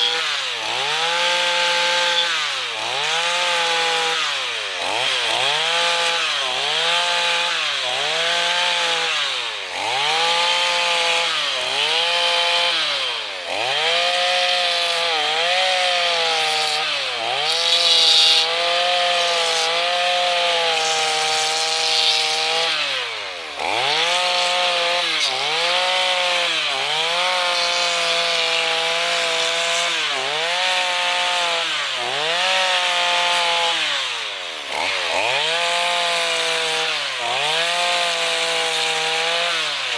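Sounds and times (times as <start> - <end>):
chainsaw cutting into wood: 0.0 - 39.9.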